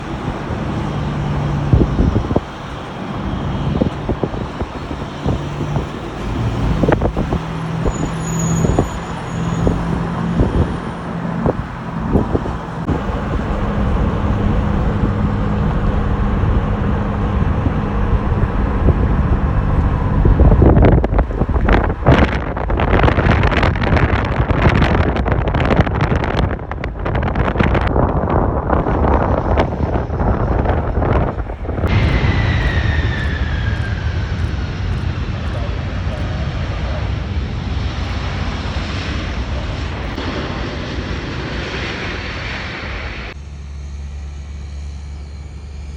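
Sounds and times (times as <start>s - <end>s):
wind buffeting microphone: 0.0s - 43.4s
jet engines rumbling: 0.0s - 45.9s
road traffic noise: 0.0s - 45.9s.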